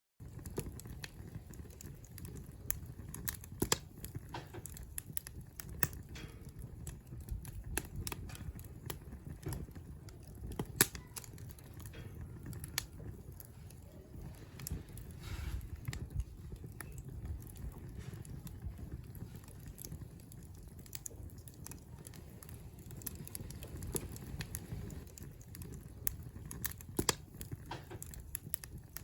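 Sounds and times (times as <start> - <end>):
campfire crackling: 0.2 - 29.0.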